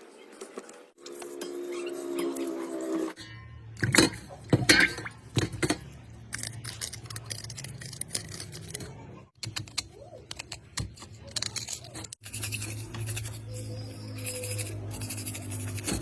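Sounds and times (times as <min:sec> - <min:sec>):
tools scraping and clicking on metal: 0:00.4 - 0:16.0.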